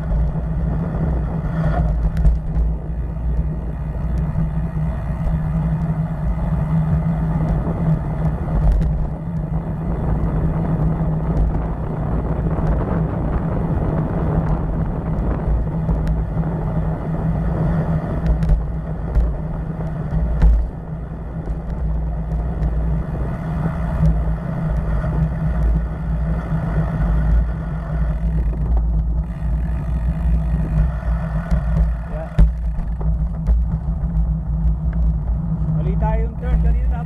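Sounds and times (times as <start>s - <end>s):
low rumble of road noise: 0.0s - 37.0s
motor traffic: 0.0s - 37.0s
wind buffeting microphone: 0.0s - 37.0s.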